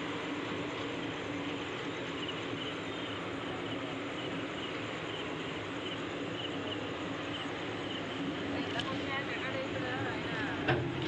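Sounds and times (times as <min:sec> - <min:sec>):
crickets chirping: 0:00.0 - 0:11.0
train coaches rolling past: 0:00.0 - 0:11.0.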